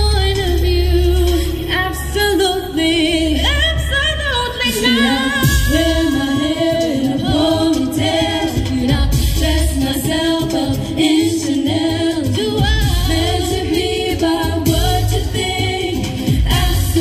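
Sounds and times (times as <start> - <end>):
deep pulsing bass: 0.0 - 17.0
woman singing pop song: 0.0 - 17.0.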